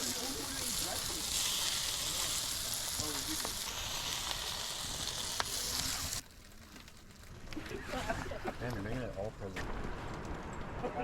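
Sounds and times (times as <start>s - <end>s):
food sizzling on a grill: 0.0s - 9.3s.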